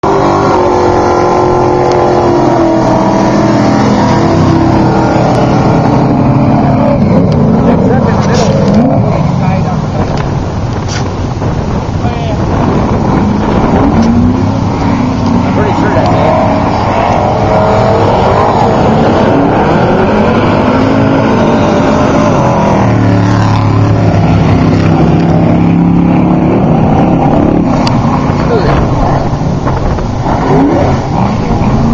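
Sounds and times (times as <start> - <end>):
truck engines revving: 0.0 - 31.9.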